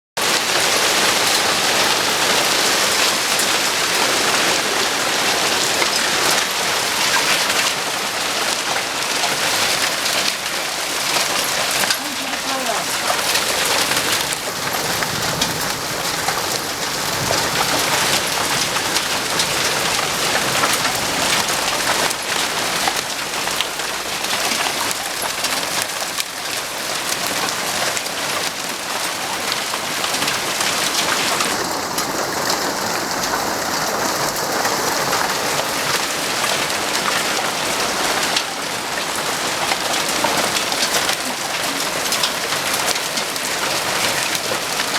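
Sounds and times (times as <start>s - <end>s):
hailstones clattering: 0.2s - 44.9s.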